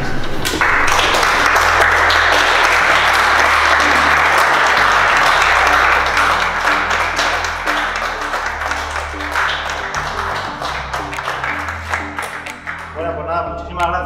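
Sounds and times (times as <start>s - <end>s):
audience applauding: 0.5s - 13.1s.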